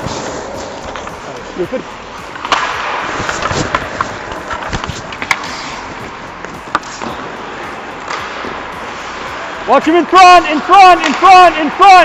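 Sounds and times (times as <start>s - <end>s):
hockey sticks and puck clacking: 0.0s - 12.0s.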